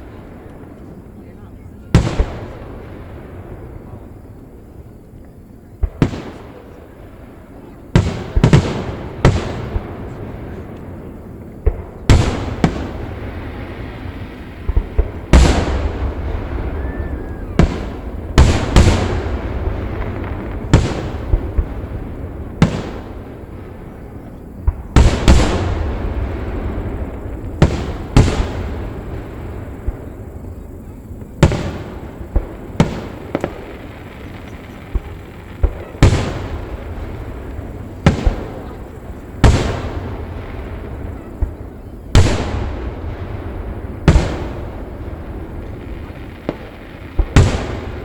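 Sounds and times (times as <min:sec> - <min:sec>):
fireworks bangs: 0:00.0 - 0:48.0.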